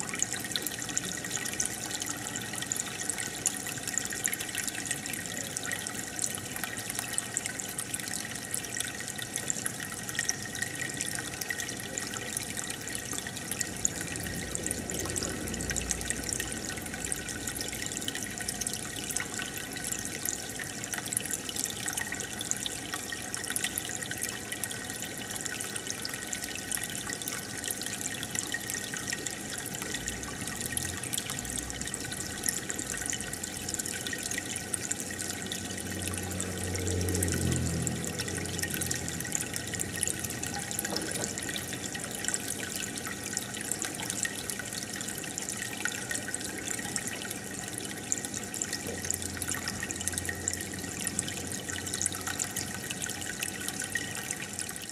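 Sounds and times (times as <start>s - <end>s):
aquarium bubbles fizzing: 0.0s - 54.9s.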